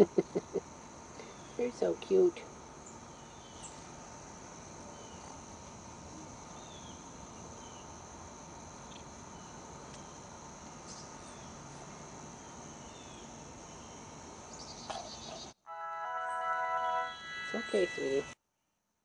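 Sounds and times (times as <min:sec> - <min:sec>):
crickets trilling: 0:00.0 - 0:15.5, 0:17.2 - 0:18.4.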